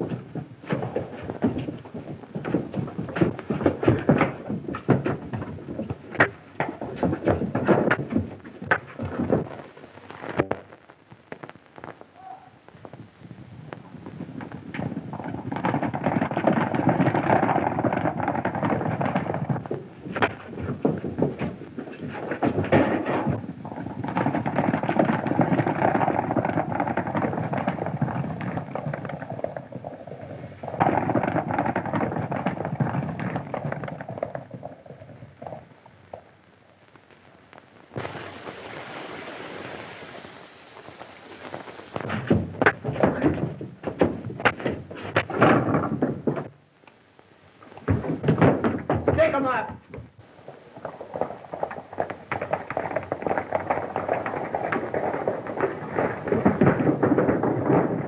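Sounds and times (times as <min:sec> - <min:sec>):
horses galloping: 0:00.0 - 0:10.6, 0:11.8 - 0:36.4, 0:38.0 - 0:46.6, 0:47.6 - 0:58.0.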